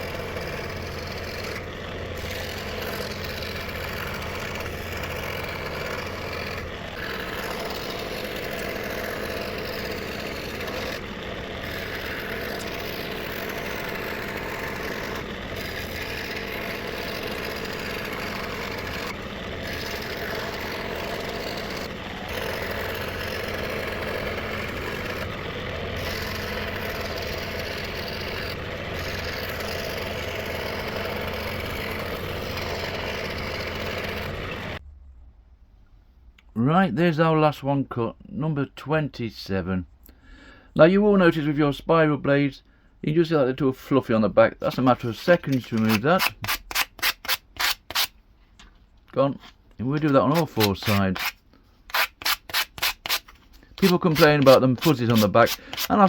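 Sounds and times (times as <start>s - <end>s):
scroll saw cutting plywood: 0.0s - 34.8s, 43.9s - 48.2s, 49.2s - 56.0s.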